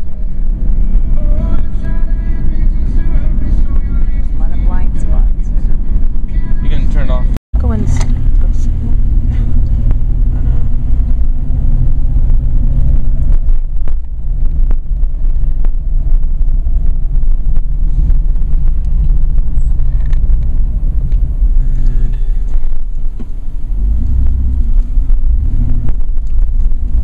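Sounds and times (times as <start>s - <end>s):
engine and road noise: 0.0s - 27.0s.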